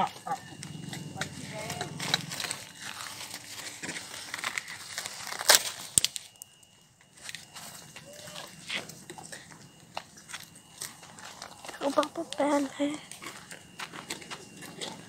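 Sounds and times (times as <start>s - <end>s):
crinkling rustling handling noise: 1.3s - 14.4s.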